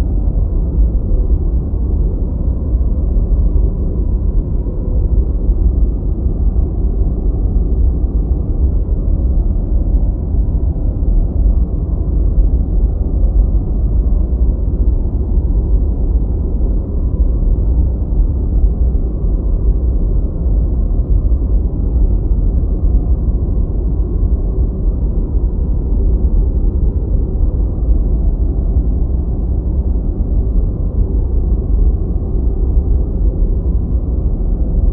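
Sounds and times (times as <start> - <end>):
low muffled white noise: 0.0 - 34.9.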